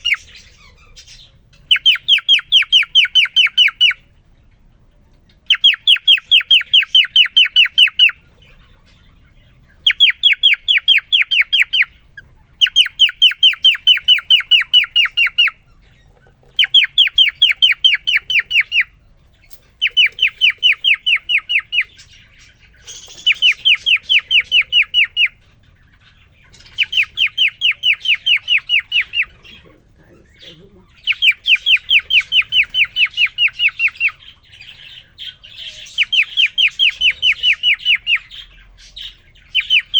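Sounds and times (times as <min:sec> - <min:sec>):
cockatiel whistling song: 0:00.0 - 0:04.1, 0:05.4 - 0:15.6, 0:16.6 - 0:29.7, 0:31.0 - 0:39.9.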